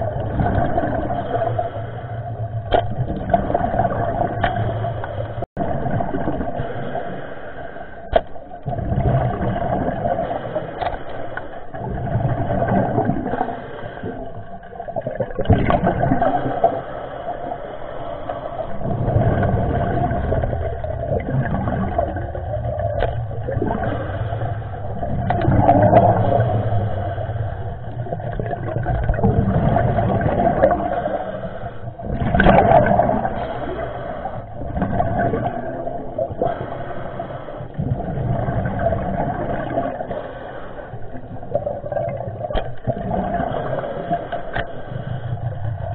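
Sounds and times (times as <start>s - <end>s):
water rushing and sloshing: 0.0s - 45.9s.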